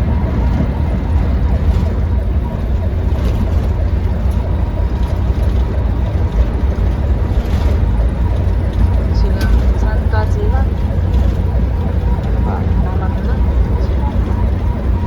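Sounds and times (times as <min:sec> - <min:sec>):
road and engine rumble in vehicle: 0:00.0 - 0:15.0.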